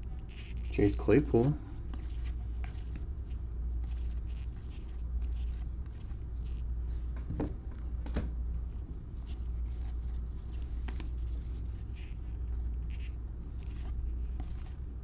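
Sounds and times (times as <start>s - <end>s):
steady low hum: 0.0s - 15.0s
cards rustling: 0.2s - 7.3s, 8.9s - 15.0s.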